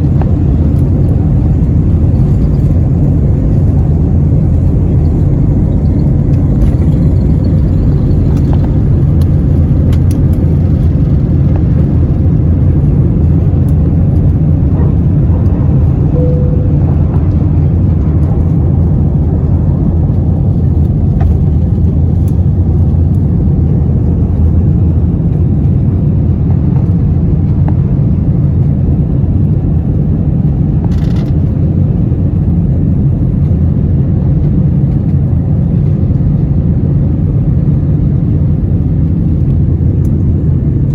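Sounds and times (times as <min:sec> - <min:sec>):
aircraft cabin engine drone: 0:00.0 - 0:40.9.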